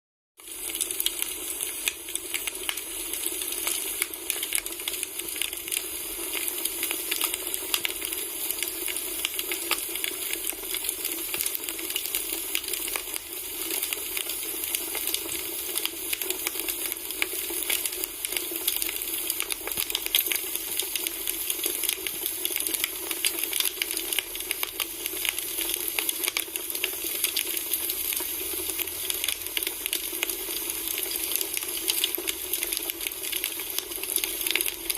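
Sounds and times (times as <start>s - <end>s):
firewood crackling and popping: 0.4s - 34.9s.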